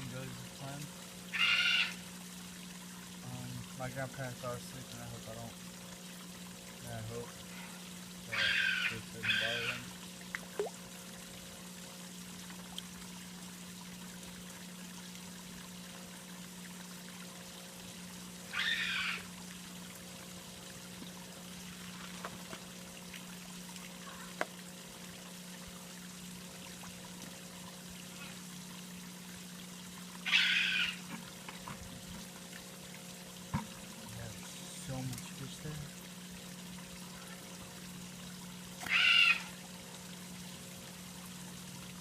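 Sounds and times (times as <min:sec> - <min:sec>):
constant low hum: 0:00.0 - 0:42.0
water trickling: 0:00.0 - 0:42.0.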